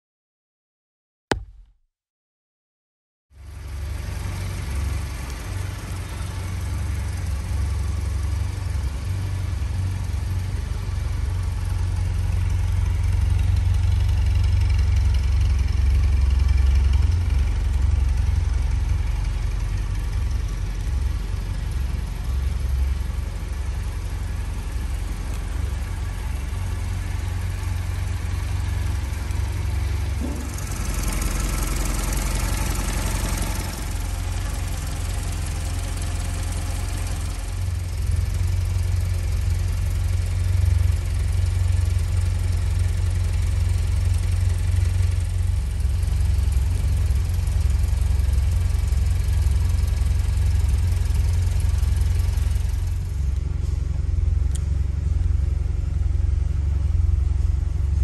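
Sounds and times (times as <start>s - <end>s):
car engine idling: 3.4s - 58.0s.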